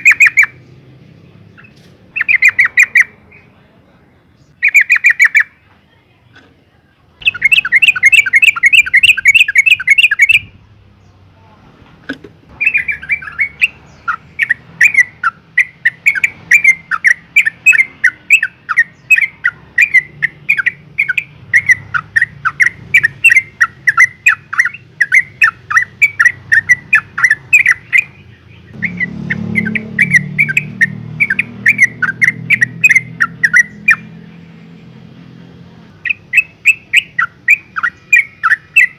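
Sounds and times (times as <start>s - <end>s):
bird chattering call: 0.0s - 0.7s, 1.5s - 3.6s, 4.4s - 5.6s, 7.2s - 10.5s, 12.5s - 34.3s, 36.0s - 38.9s.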